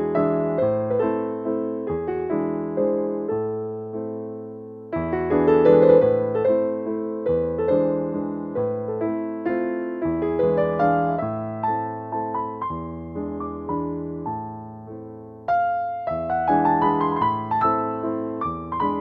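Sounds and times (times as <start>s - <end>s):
gentle piano chords: 0.0s - 19.0s.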